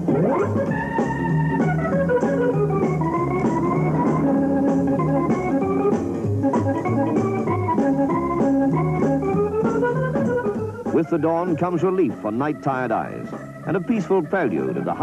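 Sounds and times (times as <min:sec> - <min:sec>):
organ-like film music chords: 0:00.0 - 0:15.0
light steady beat: 0:00.6 - 0:15.0.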